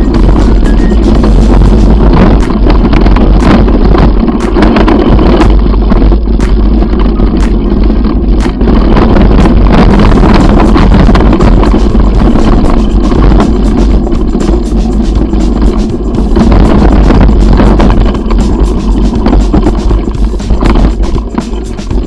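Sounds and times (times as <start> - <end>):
bike knocks and rattles: 0.0 - 22.0
wind buffeting microphone: 0.0 - 22.0.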